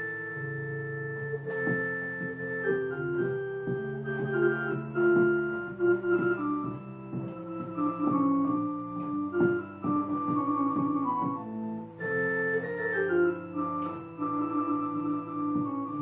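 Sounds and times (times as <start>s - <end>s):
pipe organ playing: 0.0s - 16.0s.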